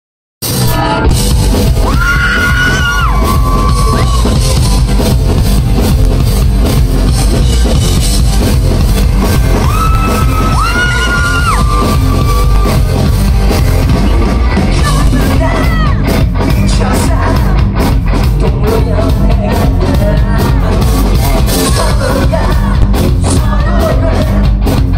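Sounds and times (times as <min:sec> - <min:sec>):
live rock band: 0:00.4 - 0:24.9.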